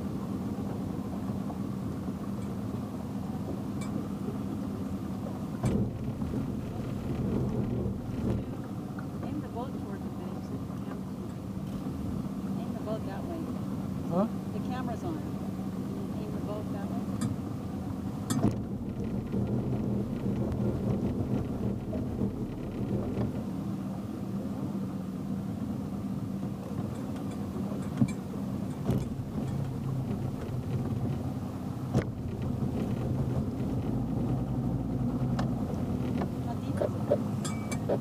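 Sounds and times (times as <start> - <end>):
motorboat engine humming: 0.0 - 38.0.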